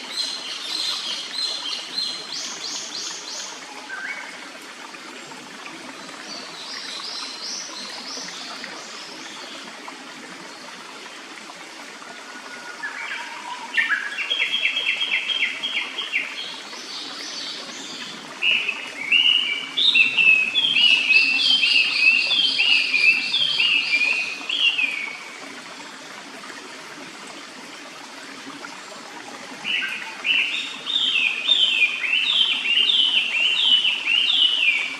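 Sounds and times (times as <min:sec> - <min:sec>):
stream running: 0:00.0 - 0:34.9.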